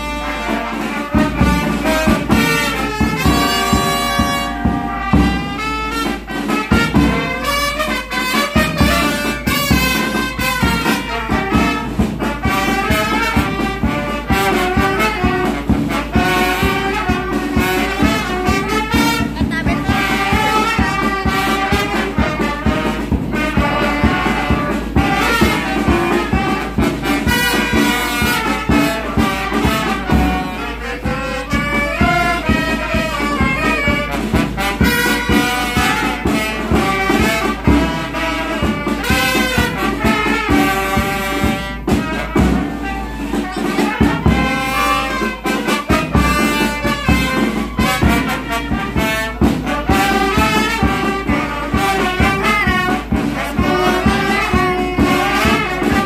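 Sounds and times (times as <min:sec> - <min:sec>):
brass band playing a carol: 0:00.0 - 0:56.0
marching bass drum beat: 0:00.0 - 0:56.0.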